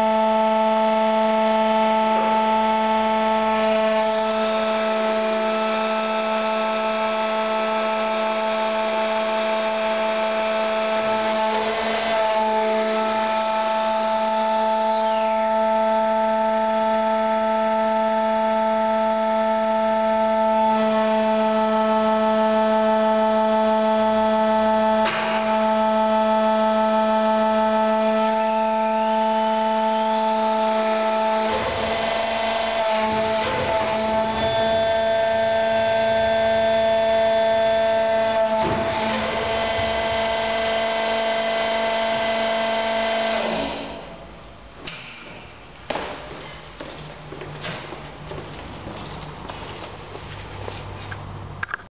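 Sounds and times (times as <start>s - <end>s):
high motor whine: 0.0s - 51.8s
machine drive humming: 0.0s - 51.9s.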